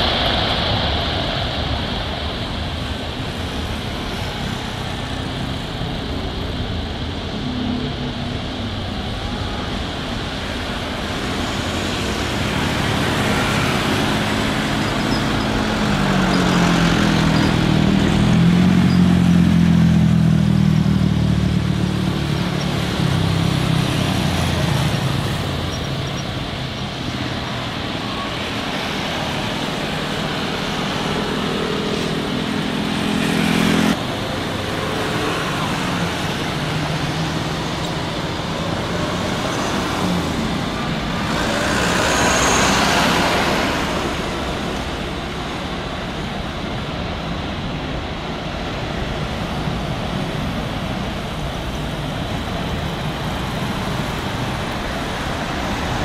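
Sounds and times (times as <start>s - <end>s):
jet engines humming while taxiing: 0.0s - 56.0s.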